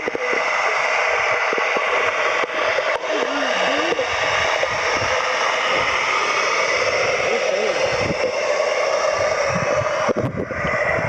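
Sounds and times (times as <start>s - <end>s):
rushing hissing water: 0.0s - 11.0s.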